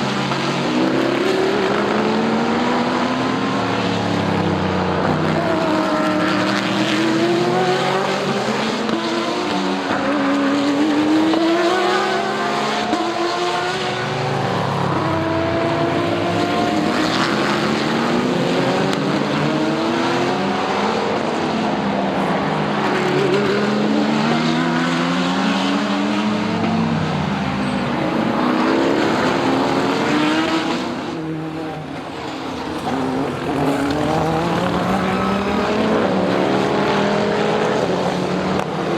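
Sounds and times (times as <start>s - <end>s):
race cars revving past: 0.0s - 38.9s.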